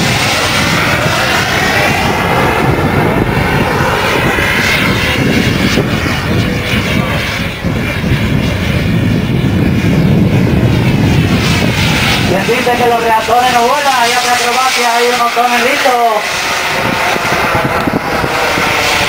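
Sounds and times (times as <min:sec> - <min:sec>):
model jet turbine rushing: 0:00.0 - 0:19.0.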